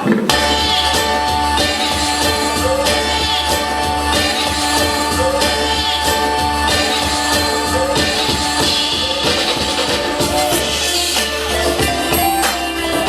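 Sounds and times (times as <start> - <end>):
hip-hop beat with looped sample: 0.0 - 13.0.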